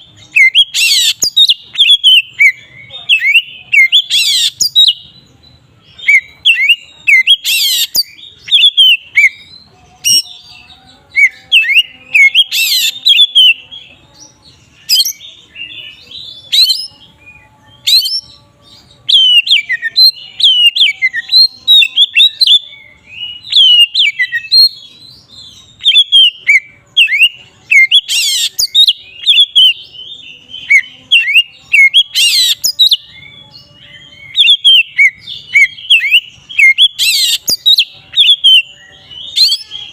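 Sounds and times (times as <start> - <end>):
bird whistling song: 0.0 - 13.8, 14.6 - 39.9.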